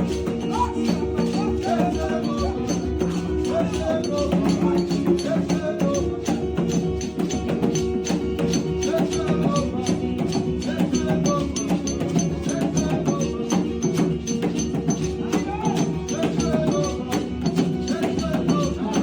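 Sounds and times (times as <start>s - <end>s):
percussion beat: 0.0s - 19.0s.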